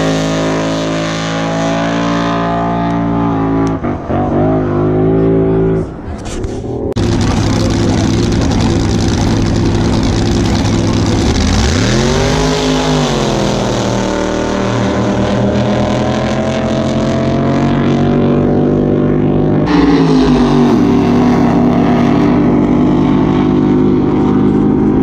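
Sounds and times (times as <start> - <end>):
jet boat engines revving: 0.0 - 6.1, 6.7 - 25.0.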